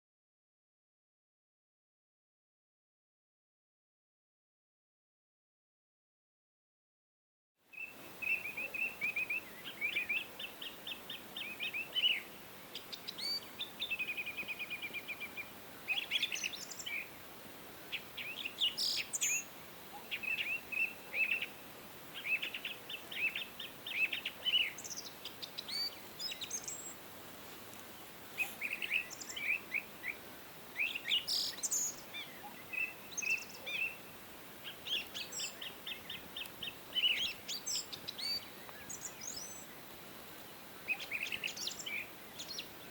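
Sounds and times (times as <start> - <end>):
songbirds singing and chirping: 7.7 - 42.9
flowing stream water: 7.8 - 42.9.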